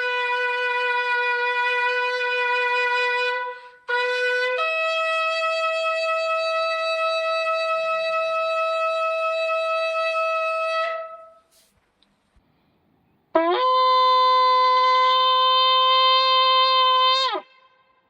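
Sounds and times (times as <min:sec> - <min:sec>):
shofar blasts: 0:00.0 - 0:11.7, 0:13.4 - 0:18.0.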